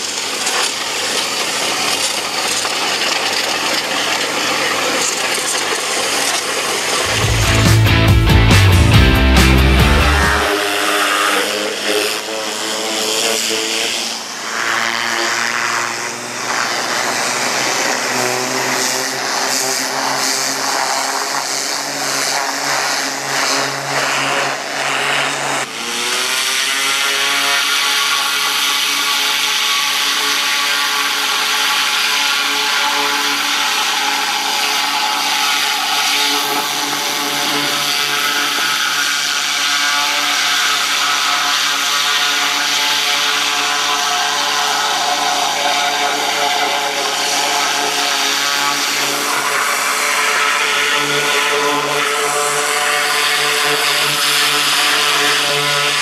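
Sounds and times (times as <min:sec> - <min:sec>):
high-pressure water jet hissing on metal: 0:00.0 - 0:07.2, 0:10.4 - 0:56.0
pressure washer running: 0:00.0 - 0:56.0.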